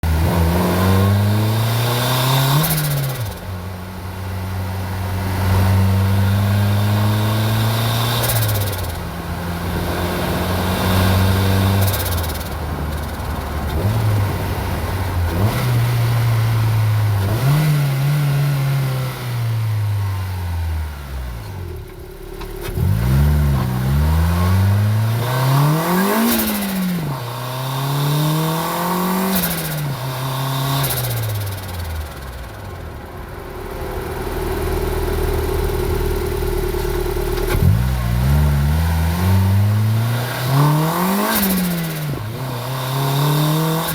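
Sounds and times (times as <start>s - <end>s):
car engine revving: 4.7s - 43.9s.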